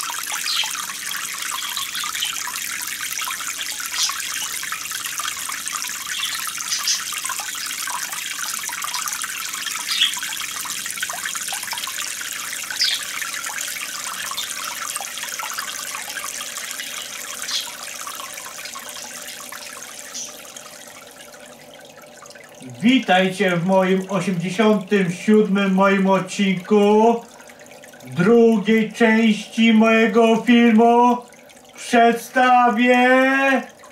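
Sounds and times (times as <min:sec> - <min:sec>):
sharp water drips: 0:00.0 - 0:33.9
water trickling and splashing: 0:00.0 - 0:33.9.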